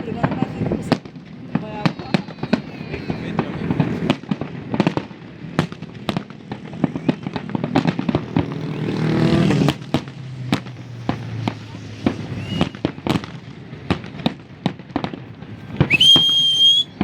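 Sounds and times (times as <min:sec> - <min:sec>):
fireworks bangs and pops: 0:00.0 - 0:17.0
fireworks crackling: 0:00.0 - 0:17.0.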